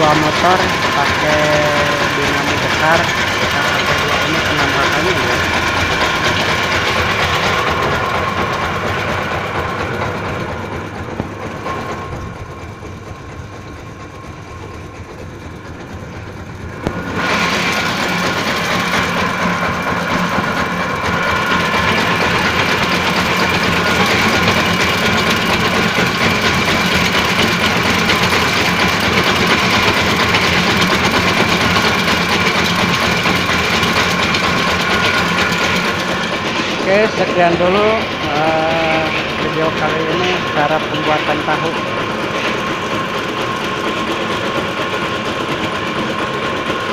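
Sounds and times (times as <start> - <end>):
machine motors whining and rattling: 0.0 - 46.9.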